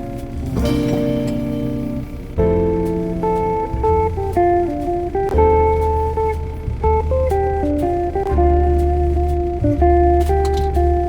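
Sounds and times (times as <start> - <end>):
background music with sustained chords: 0.0 - 11.0.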